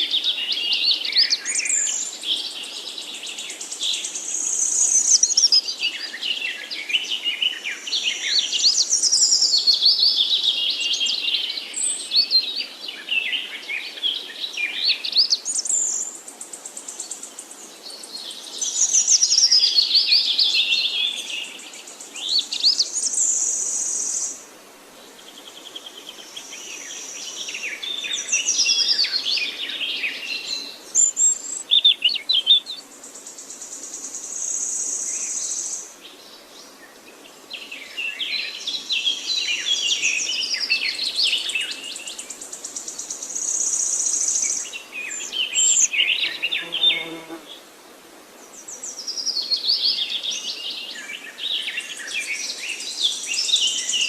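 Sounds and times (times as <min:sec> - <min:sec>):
songbird singing: 0:00.0 - 0:47.7, 0:48.3 - 0:54.0.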